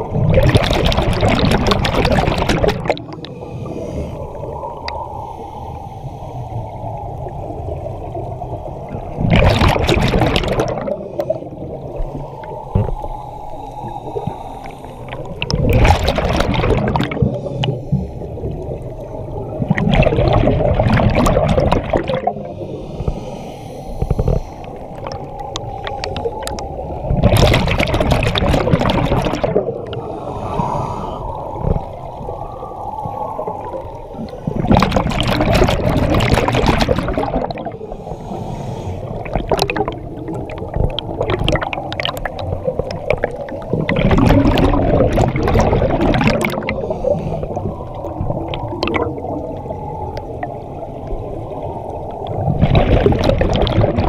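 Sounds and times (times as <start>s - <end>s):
underwater bubbling exhalations: 0.0s - 5.1s, 8.8s - 54.0s
muffled water rumble: 0.0s - 54.0s.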